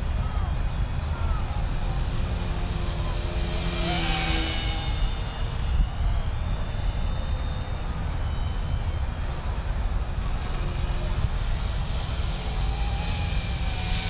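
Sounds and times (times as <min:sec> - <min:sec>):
rc helicopter rotor whine: 0:00.0 - 0:14.0.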